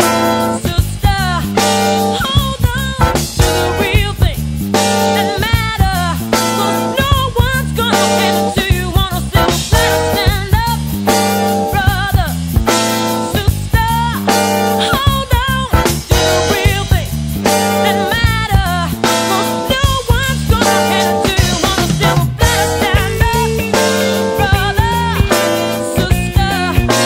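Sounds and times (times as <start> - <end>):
bass: 0.0 - 27.0
drums: 0.0 - 27.0
guitar: 0.0 - 27.0
person singing: 0.0 - 27.0.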